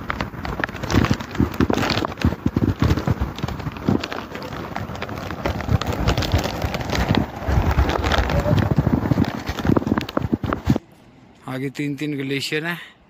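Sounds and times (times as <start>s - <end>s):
footsteps on rocky path: 0.0s - 10.8s
wind buffeting microphone: 0.0s - 10.8s
rough rustling: 0.0s - 10.9s.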